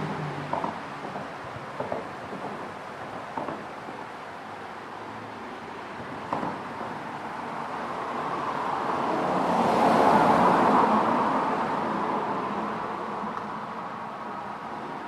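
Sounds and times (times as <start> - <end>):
car passing over bridge: 0.0 - 15.0.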